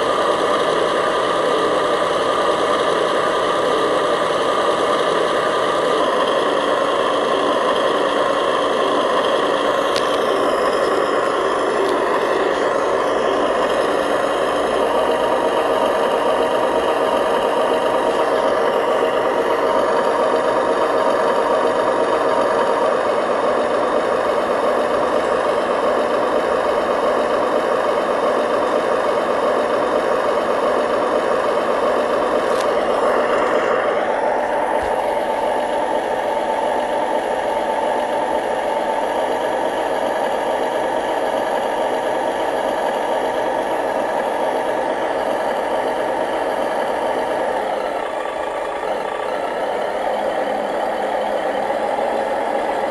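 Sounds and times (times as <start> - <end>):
model vehicle engine drone: 0.0 - 52.9.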